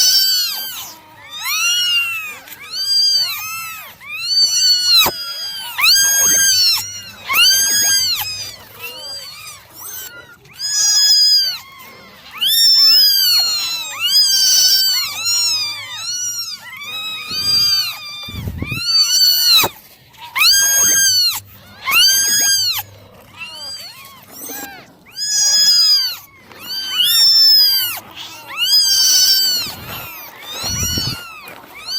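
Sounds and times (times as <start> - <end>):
kittens meowing: 0.0 - 31.9.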